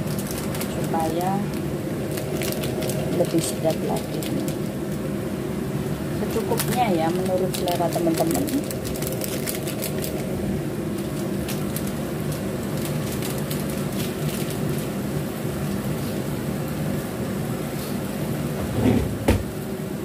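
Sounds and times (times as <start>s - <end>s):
crackles: 0.0s - 16.4s.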